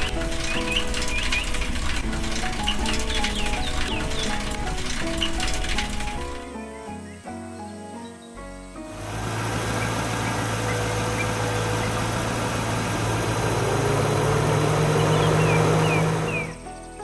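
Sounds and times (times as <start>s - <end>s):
engine humming: 0.0s - 7.2s, 8.7s - 16.9s.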